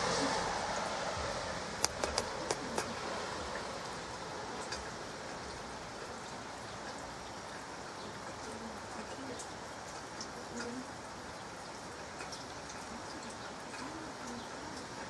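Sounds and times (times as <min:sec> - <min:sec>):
light rain hissing: 0:00.0 - 0:15.0
sharp drips tapping: 0:01.8 - 0:15.0.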